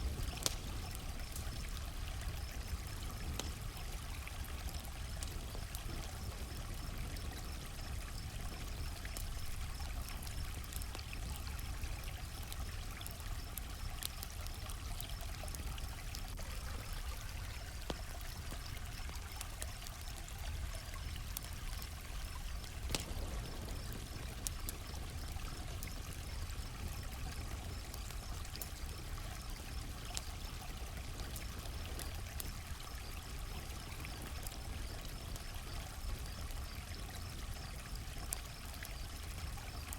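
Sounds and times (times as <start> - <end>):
crickets chirping: 0.0 - 30.6, 31.2 - 39.9
campfire crackling and popping: 0.0 - 39.9.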